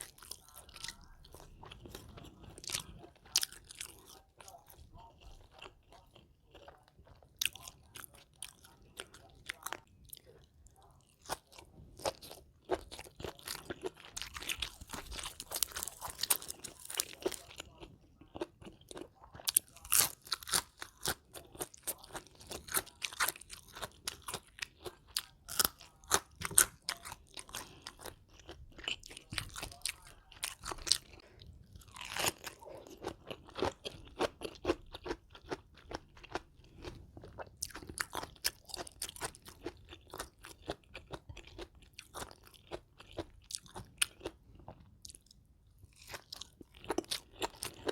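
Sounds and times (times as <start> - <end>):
chewing crunchy food: 0.0 - 47.9.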